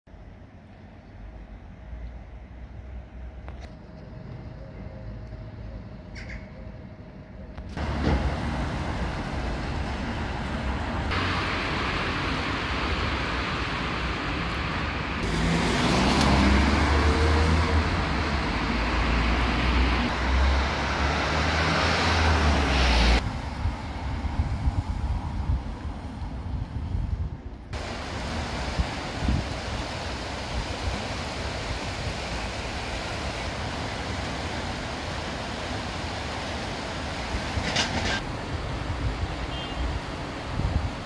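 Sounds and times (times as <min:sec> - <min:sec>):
street traffic rumble: 0:00.1 - 0:41.0.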